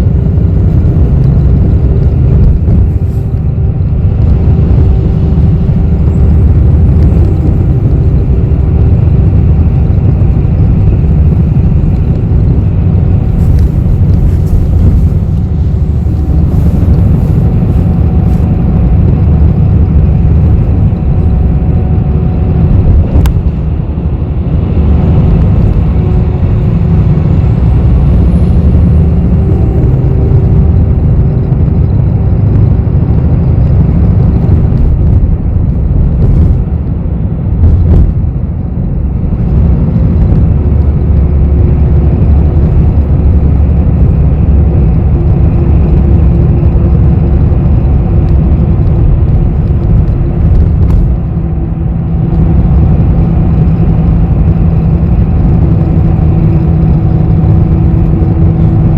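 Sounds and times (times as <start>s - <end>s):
bus engine and road rumble: 0.0s - 58.9s.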